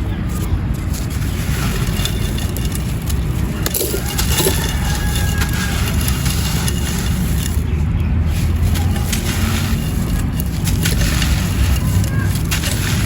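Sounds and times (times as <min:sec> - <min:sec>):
clay pot pieces being crushed: 0:00.0 - 0:13.0.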